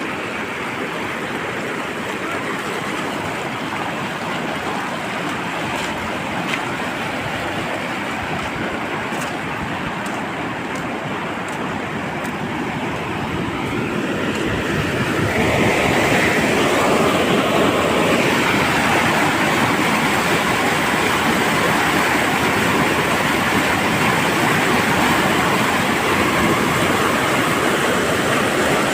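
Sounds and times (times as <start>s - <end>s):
fast river water rushing: 0.0s - 28.9s.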